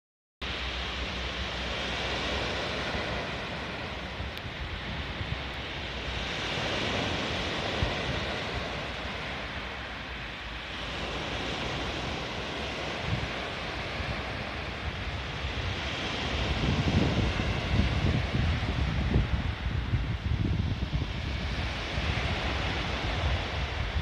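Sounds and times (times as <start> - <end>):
wind buffeting microphone: 0.4 - 24.0
waves breaking on pebble beach: 0.5 - 24.0.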